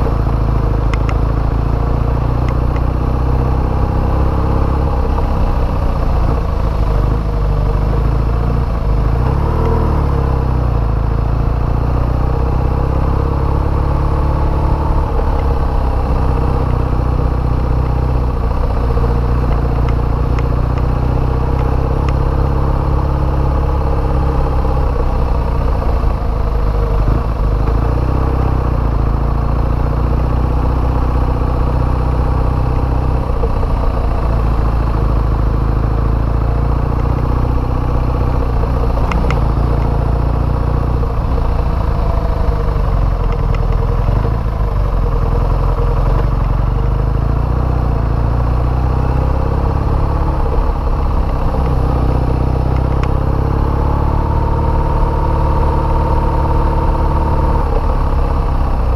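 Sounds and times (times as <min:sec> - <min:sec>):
motorcycle engine running: 0:00.0 - 0:58.9
road and wind noise: 0:00.0 - 0:58.9.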